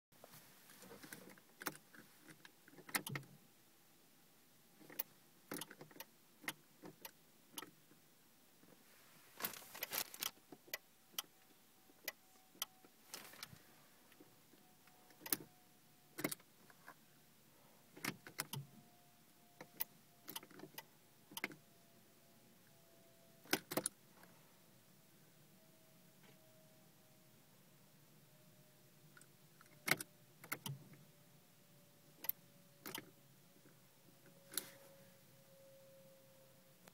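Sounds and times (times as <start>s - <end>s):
faint steady tone: 0.2s - 36.9s.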